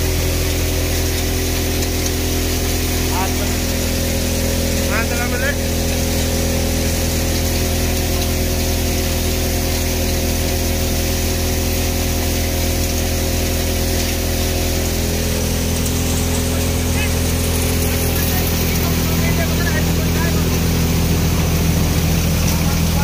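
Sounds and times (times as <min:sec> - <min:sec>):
thresher machine drone: 0:00.0 - 0:23.0.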